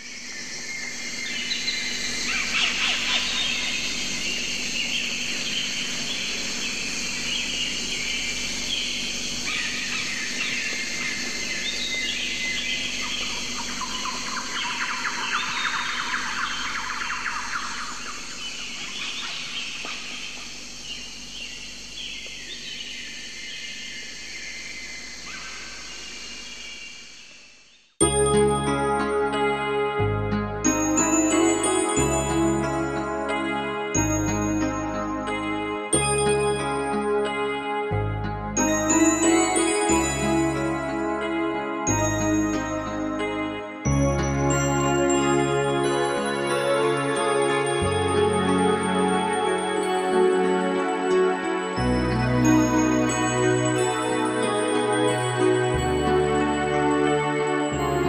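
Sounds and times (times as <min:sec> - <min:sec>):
songbirds chirping and singing: 0:00.0 - 0:27.4, 0:28.0 - 0:58.0.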